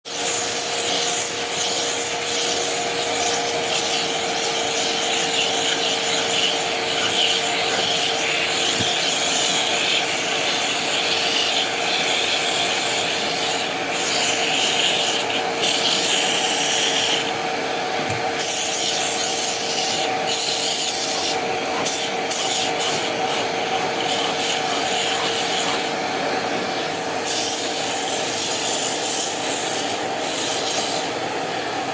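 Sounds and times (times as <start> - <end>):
vacuum motor hum: 0.1 - 31.9.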